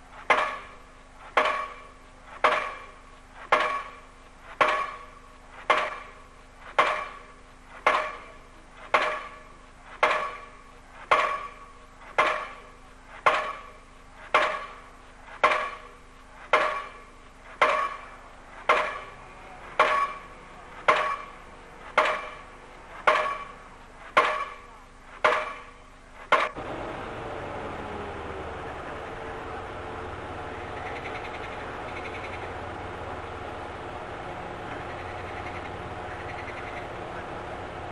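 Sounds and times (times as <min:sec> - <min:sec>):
pile driver metallic blows: 0:00.0 - 0:37.9.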